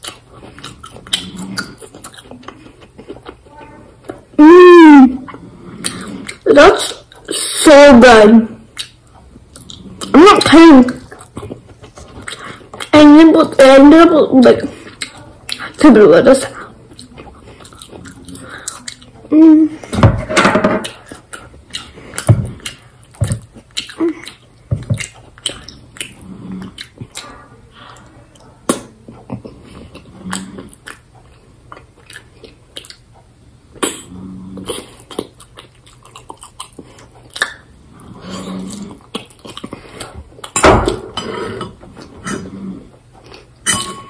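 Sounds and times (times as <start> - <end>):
chewing pasta: 0.0 - 4.4, 5.2 - 7.6, 8.6 - 19.9, 20.8 - 40.6, 41.2 - 43.7.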